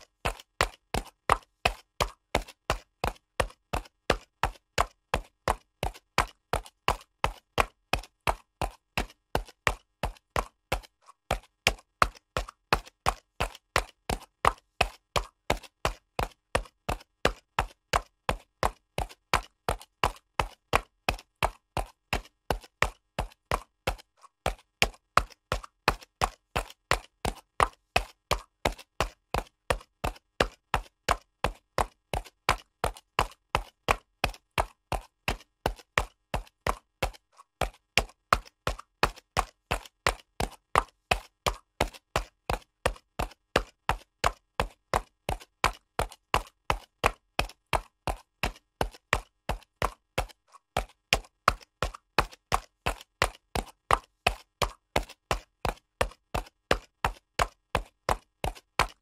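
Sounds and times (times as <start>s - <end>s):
horse hooves trotting on concrete: 0.0s - 59.0s.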